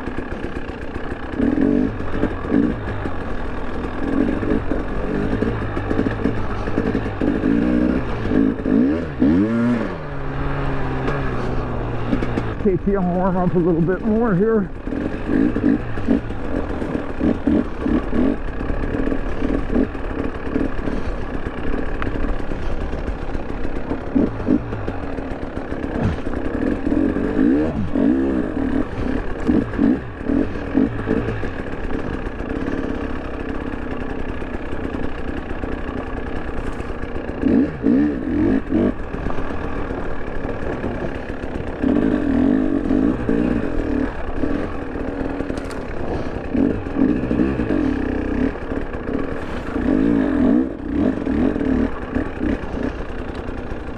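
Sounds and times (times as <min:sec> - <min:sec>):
two-stroke dirt bike engine revving: 0:00.0 - 0:53.9.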